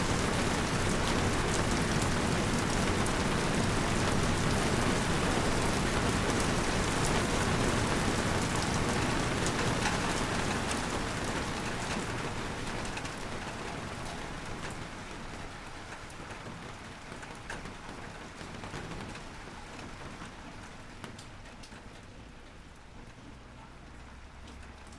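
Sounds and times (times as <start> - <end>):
rain falling: 0.0 - 24.9.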